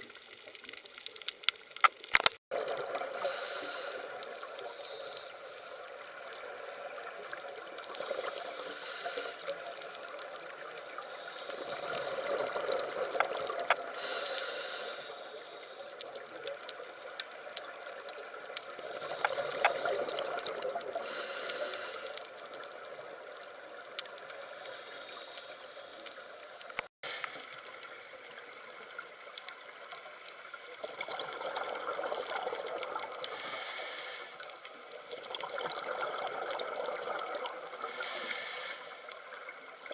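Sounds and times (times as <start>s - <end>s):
water trickling and gurgling: 2.5s - 14.2s, 15.4s - 39.9s.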